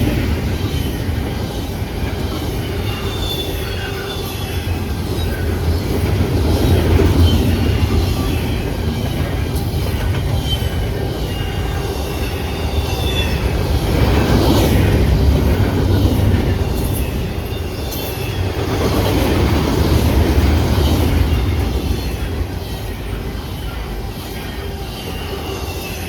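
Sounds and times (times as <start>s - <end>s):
freight train wheels rumbling: 0.0s - 26.0s
high wheel squeal: 0.0s - 26.0s.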